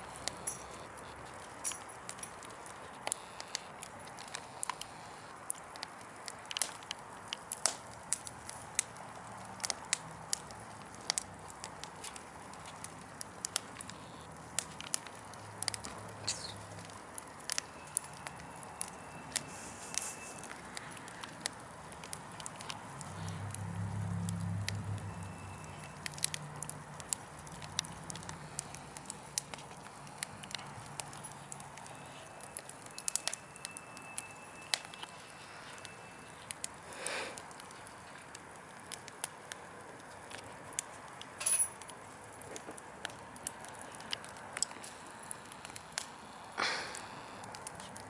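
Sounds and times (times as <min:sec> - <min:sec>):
burning wood crackling: 0:00.0 - 0:48.0
fire hissing: 0:00.0 - 0:48.0.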